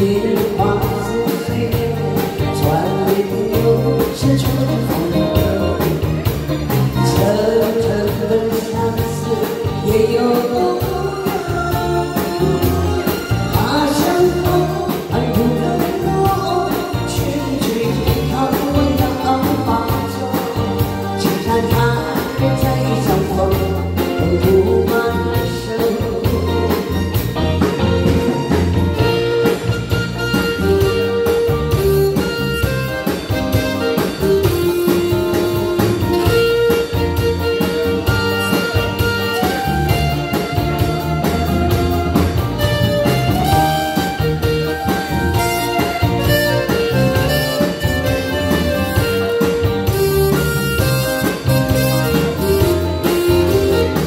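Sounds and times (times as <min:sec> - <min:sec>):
drum kit: 0:00.0 - 0:54.0
electric guitar: 0:00.0 - 0:54.0
keyboard: 0:00.0 - 0:54.0
lead melody of long notes: 0:00.0 - 0:54.0.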